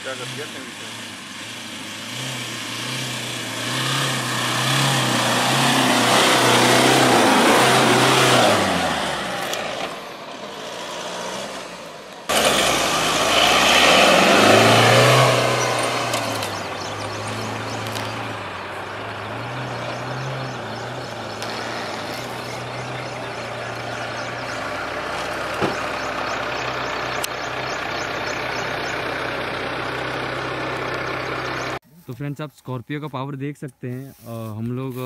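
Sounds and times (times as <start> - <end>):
car engine pulling hard uphill: 0.0 - 31.8
tyres over rough ground: 0.0 - 32.2.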